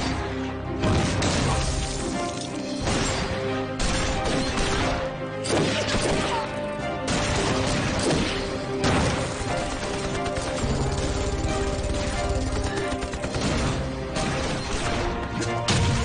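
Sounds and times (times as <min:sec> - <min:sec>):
action film score: 0:00.0 - 0:16.0.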